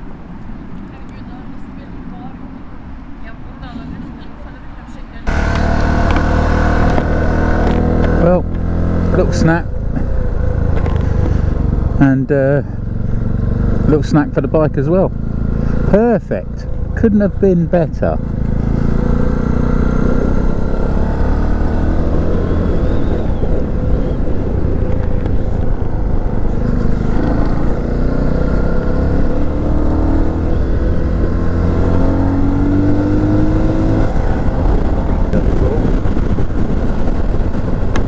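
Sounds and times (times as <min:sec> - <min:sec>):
wind and road noise: 0:00.0 - 0:38.0
motorcycle engine running: 0:05.2 - 0:38.0.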